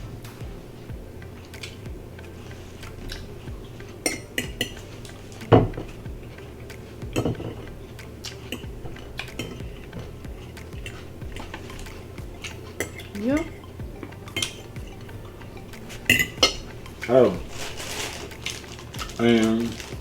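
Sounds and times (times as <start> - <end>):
cutlery clinking on plates: 0.0 - 20.0.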